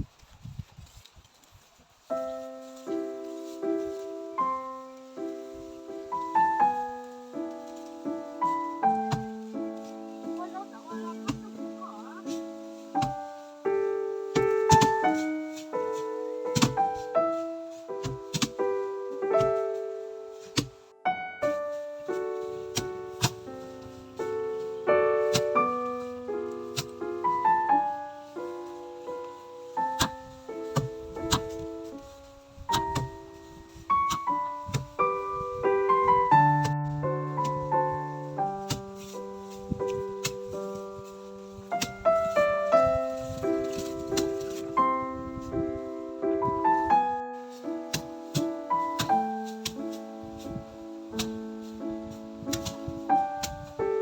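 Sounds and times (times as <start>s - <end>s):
gentle piano chords: 2.0s - 54.0s.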